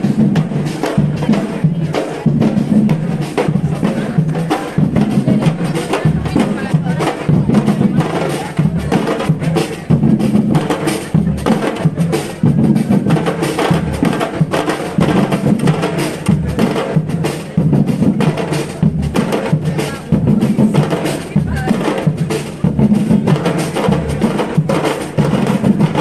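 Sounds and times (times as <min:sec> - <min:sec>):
drums and hand percussion: 0:00.0 - 0:26.0.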